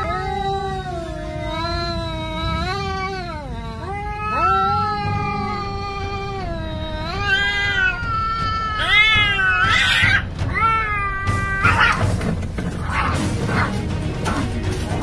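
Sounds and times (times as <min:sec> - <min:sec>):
cats yowling: 0:00.0 - 0:14.4.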